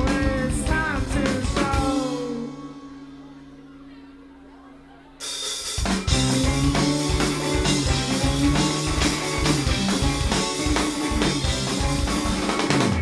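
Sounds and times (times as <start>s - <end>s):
drum kit beat: 0.0s - 3.3s, 5.2s - 13.0s
bass: 0.0s - 13.0s
guitar: 0.0s - 13.0s.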